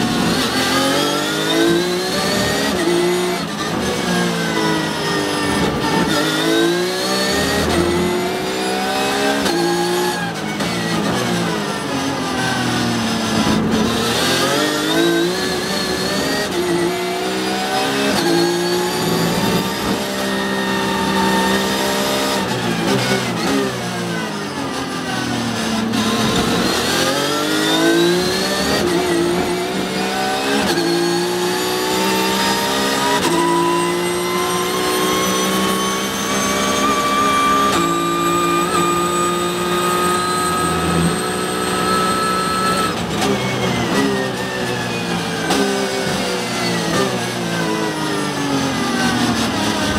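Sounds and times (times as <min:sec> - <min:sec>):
race car engine: 0:00.0 - 0:49.9.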